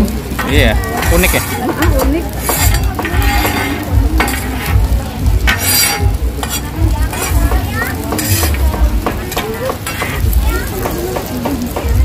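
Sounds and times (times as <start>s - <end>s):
food sizzling on a griddle: 0.0s - 12.0s
metal spatula scraping and tapping: 0.4s - 11.9s.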